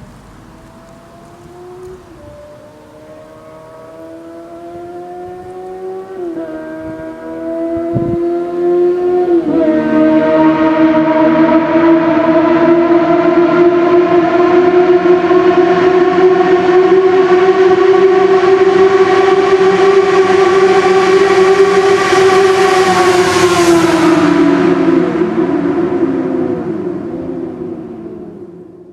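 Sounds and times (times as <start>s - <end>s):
motorcycle engine at high revs: 0.0s - 24.9s.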